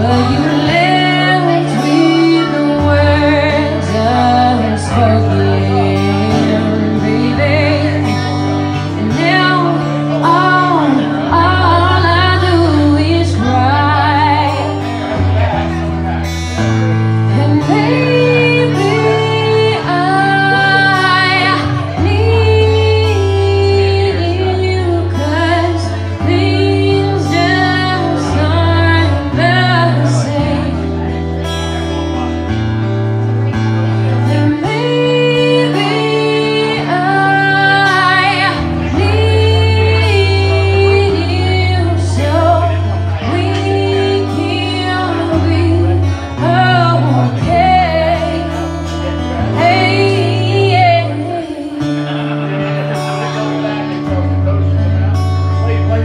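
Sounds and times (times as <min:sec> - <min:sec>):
woman singing: 0:00.0 - 0:15.6, 0:17.2 - 0:31.1, 0:34.1 - 0:52.2
acoustic guitar: 0:00.0 - 0:56.0.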